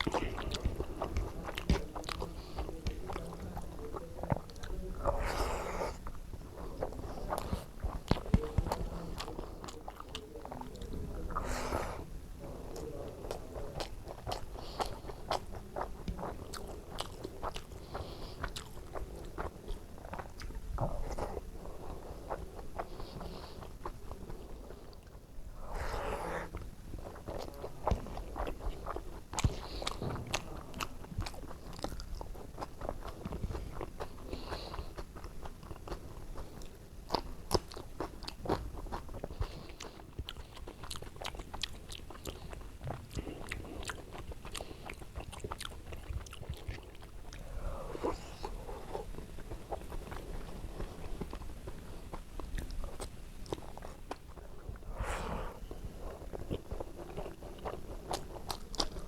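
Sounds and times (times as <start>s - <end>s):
wet chewing and mouth clicks: 0.0s - 59.0s.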